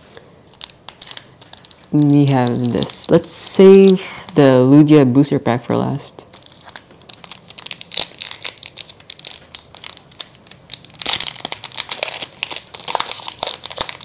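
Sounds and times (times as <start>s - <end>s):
foil wrapper crinkling: 0.5s - 4.7s, 6.3s - 14.0s.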